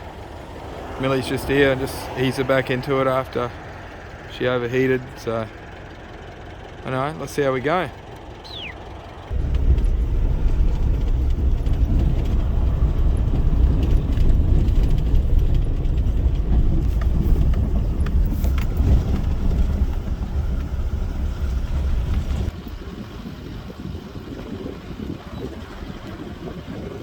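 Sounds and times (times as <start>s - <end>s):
road noise: 0.0s - 27.0s
vehicle engine rumble: 0.0s - 27.0s.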